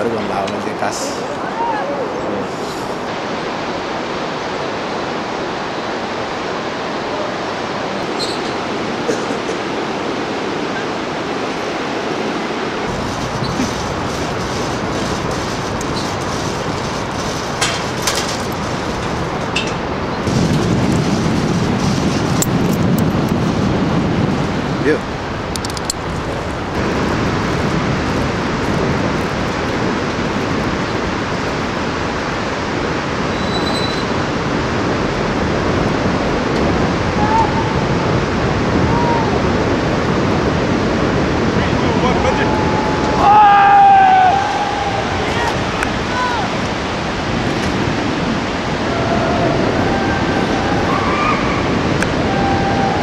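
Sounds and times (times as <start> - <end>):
river rapids rushing: 0.0 - 53.0.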